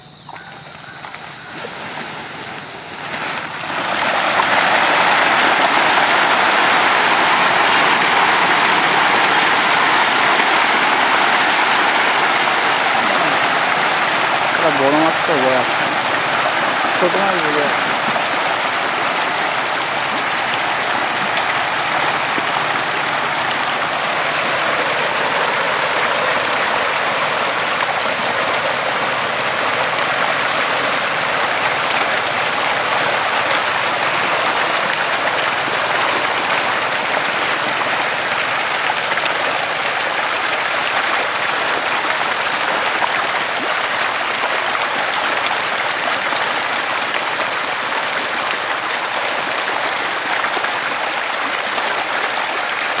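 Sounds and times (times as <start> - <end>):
fish splashing at water surface: 0.3 - 53.0.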